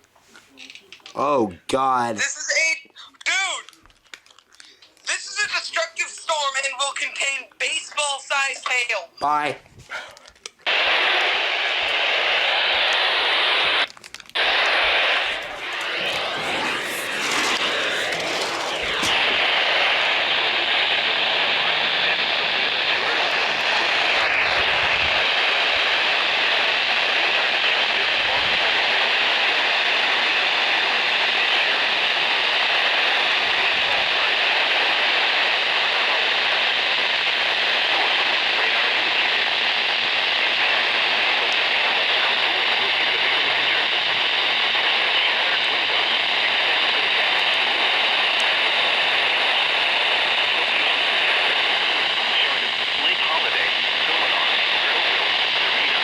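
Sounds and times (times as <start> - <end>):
radio static hiss: 4.8 - 56.0.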